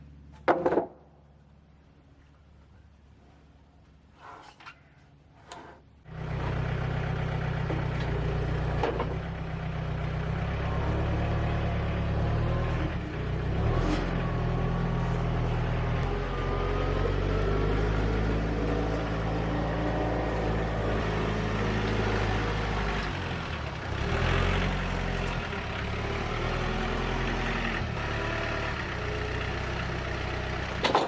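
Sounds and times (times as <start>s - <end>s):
engine running: 6.0s - 31.0s.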